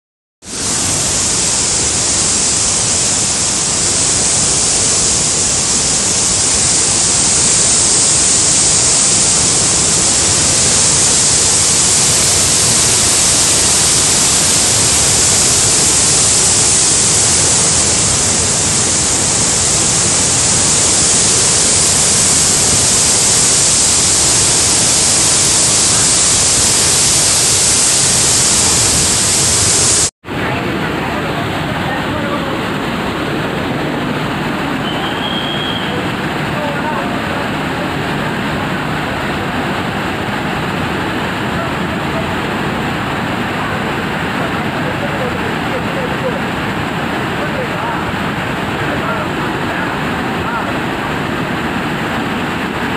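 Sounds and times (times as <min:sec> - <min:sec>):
waterfall rushing with hiss: 0:00.4 - 0:52.9.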